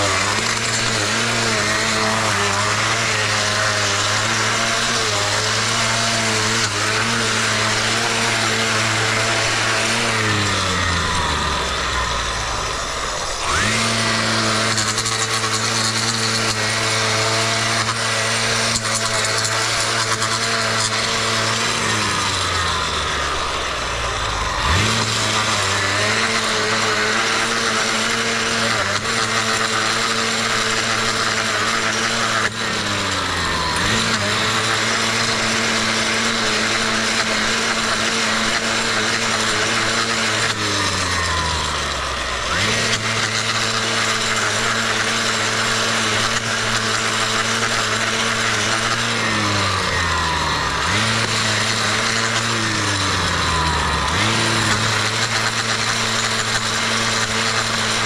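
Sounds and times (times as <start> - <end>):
blade scraping concrete: 0.0 - 58.0
edger motor hum: 0.0 - 58.0.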